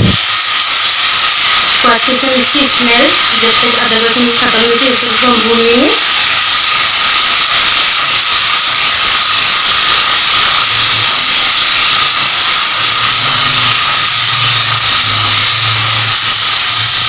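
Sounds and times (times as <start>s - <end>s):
onions sizzling in hot oil: 0.0s - 17.0s
spatula stirring in pan: 0.0s - 17.0s.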